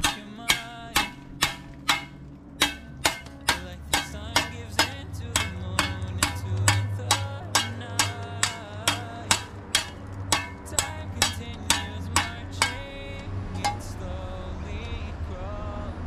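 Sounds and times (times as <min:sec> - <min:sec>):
trowel clinking on concrete block: 0:00.0 - 0:14.0
music with low hum: 0:00.0 - 0:16.0.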